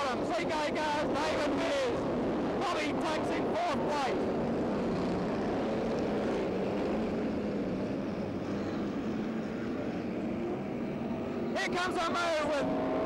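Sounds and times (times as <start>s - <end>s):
racing car engines droning: 0.0s - 13.0s.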